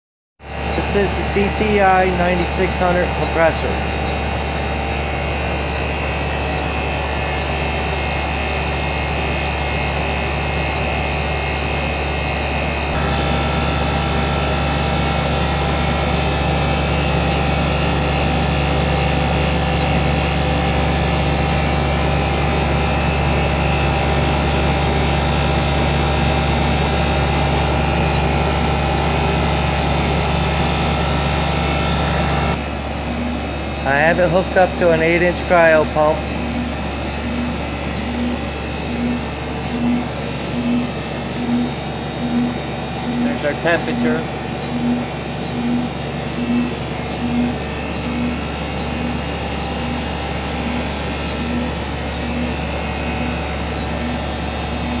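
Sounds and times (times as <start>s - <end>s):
compressor humming: 0.4s - 55.0s.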